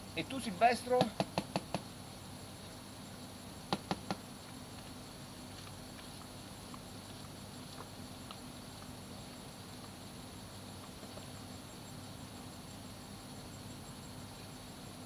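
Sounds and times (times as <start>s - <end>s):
high insect chirring: 0.0s - 15.0s.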